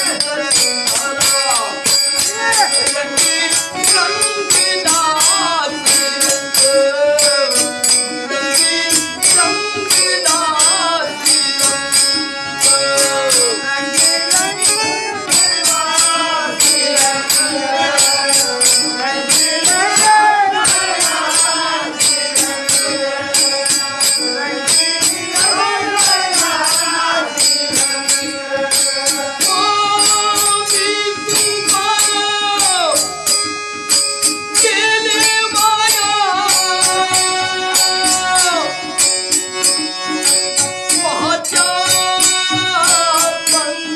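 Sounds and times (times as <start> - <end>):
man singing folk song: 0.0 - 33.2, 34.5 - 38.8, 40.9 - 43.9
jingling percussion strikes: 0.0 - 43.9.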